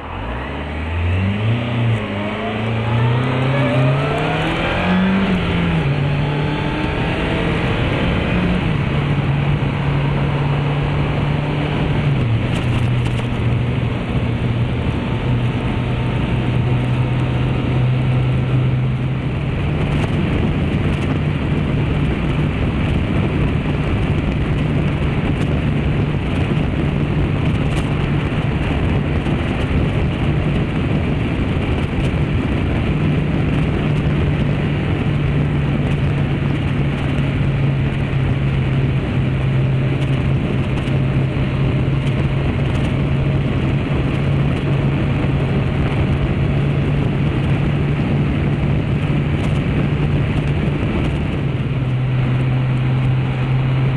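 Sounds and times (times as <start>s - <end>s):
motorcycle engine accelerating: 0.0s - 53.9s
wind and road noise: 0.0s - 53.9s.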